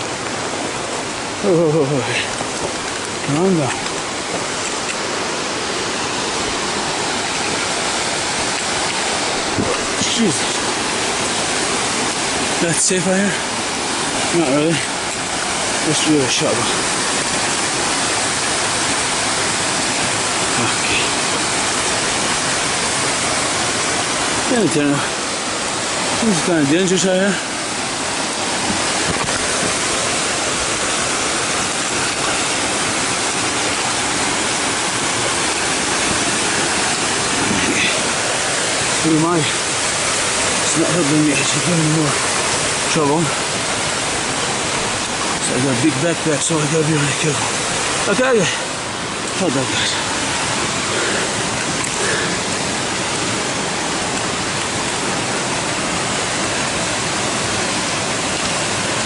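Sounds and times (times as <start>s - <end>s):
rushing creek and waterfall: 0.0s - 59.0s.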